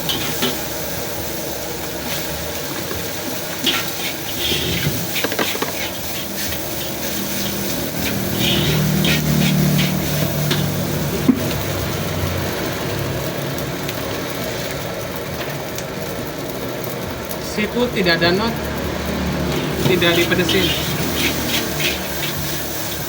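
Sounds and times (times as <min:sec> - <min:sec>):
steady background noise: 0:00.0 - 0:23.0
vehicle engine running: 0:00.0 - 0:23.0.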